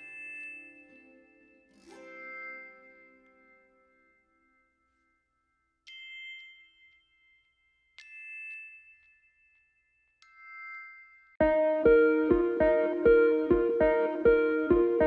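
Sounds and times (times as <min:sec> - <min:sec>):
soft bell-like chimes: 0:00.0 - 0:15.0.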